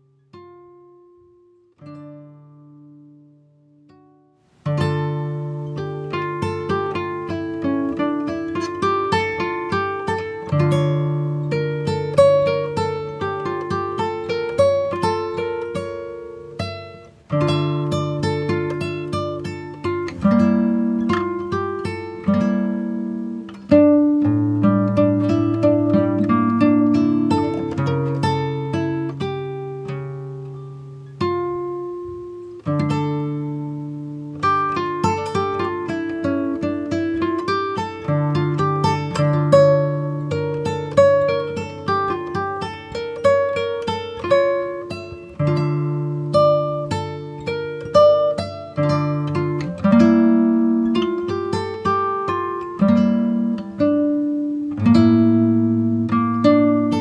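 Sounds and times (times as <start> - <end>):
plucked acoustic guitar: 0.0 - 57.0.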